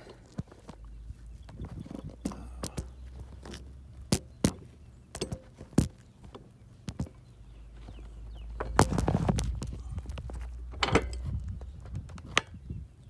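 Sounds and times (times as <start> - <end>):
clicks and knocks of handling: 0.0 - 12.6.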